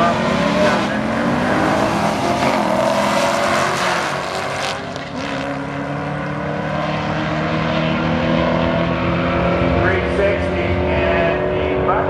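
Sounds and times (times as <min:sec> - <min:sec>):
car engines running loudly: 0:00.0 - 0:12.0.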